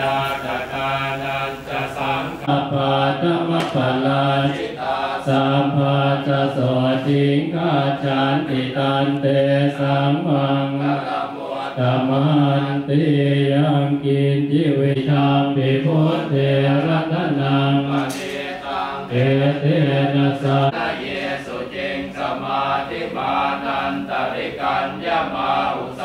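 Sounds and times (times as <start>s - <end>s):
monks chanting in unison: 0.0s - 26.0s.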